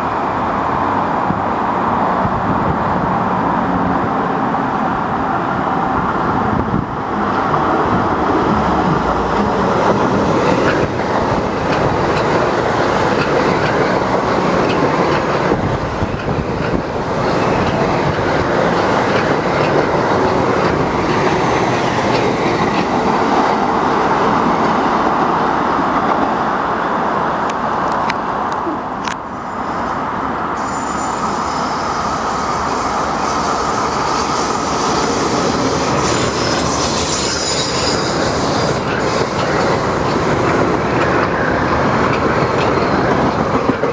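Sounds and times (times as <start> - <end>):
train wheels rumbling on track: 0.0 - 43.9.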